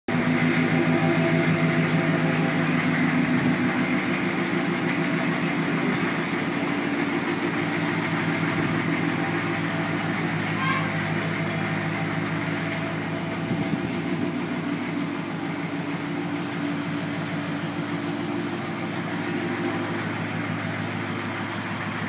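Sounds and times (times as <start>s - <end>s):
pickup truck engine idling: 0.1s - 22.0s.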